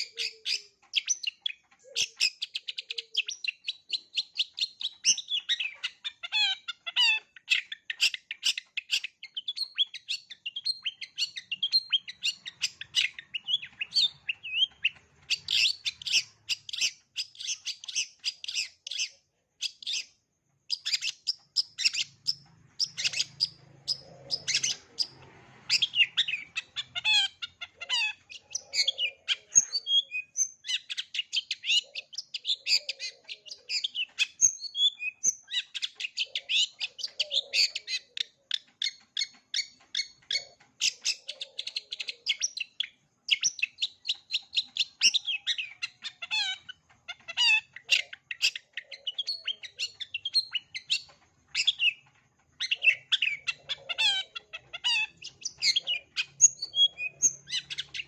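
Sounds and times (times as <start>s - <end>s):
bird singing chirping notes: 0.0s - 58.0s.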